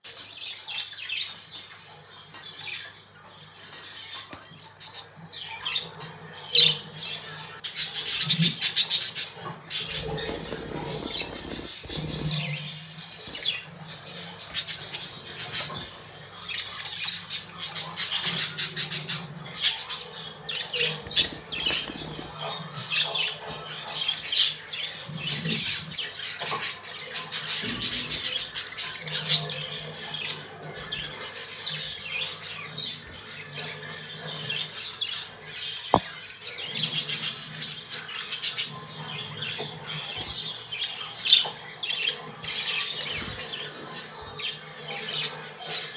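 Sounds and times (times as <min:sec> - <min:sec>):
budgerigars chirping and warbling: 0:00.0 - 0:45.9.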